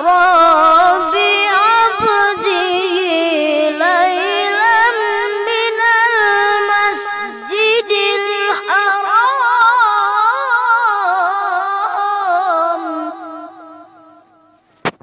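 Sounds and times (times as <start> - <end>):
boy reciting melodically: 0.0 - 13.8.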